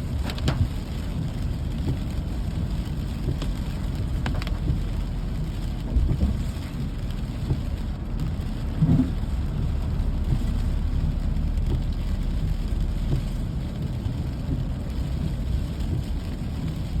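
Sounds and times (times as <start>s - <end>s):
low rumble: 0.0s - 17.0s
steady rain: 0.0s - 17.0s
sharp drip-like ticks: 0.1s - 17.0s.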